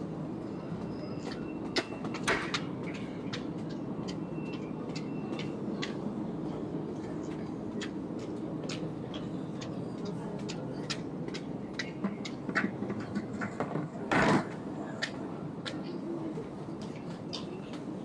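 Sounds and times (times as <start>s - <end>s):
low hum of concourse: 0.0s - 18.0s.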